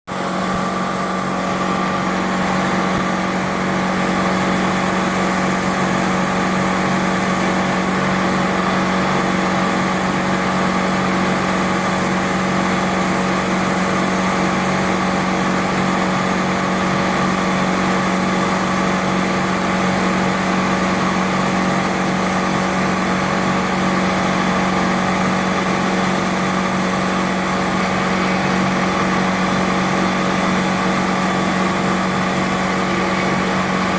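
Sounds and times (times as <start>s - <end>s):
milling machine humming: 0.1s - 33.9s.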